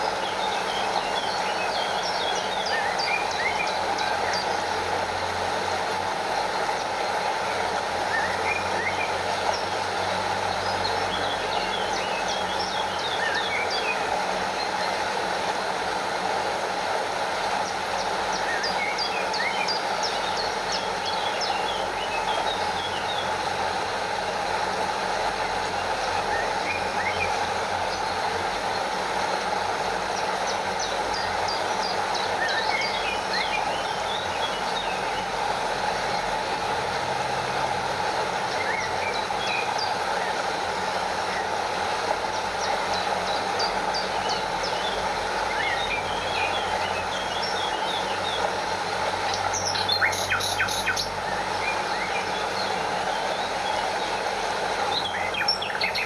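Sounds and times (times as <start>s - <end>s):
stream rushing over waterfall: 0.0s - 56.0s.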